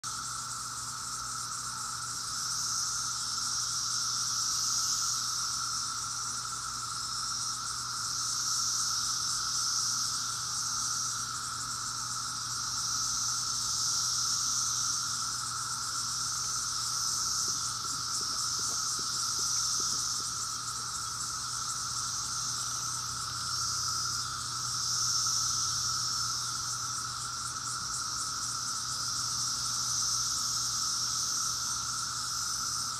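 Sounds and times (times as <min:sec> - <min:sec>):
cicadas droning: 0:00.0 - 0:32.9
cicadas high-pitched buzzing: 0:00.0 - 0:32.9.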